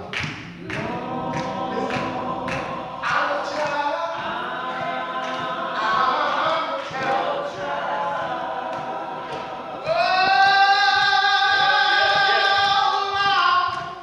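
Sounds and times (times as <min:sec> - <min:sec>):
gospel group singing in harmony: 0:00.0 - 0:14.0
sharp beats: 0:00.0 - 0:14.0.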